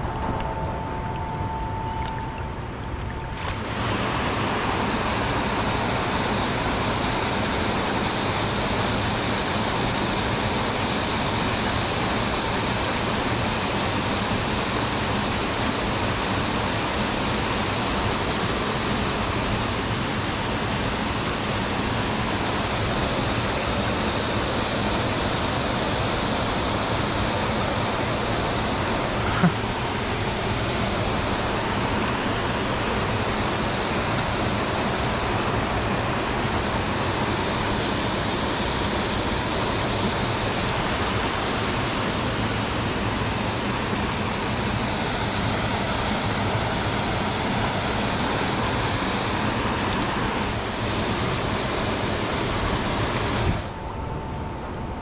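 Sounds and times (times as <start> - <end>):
spillway water pouring: 1.0 - 53.1
fast river current rushing: 3.3 - 53.8.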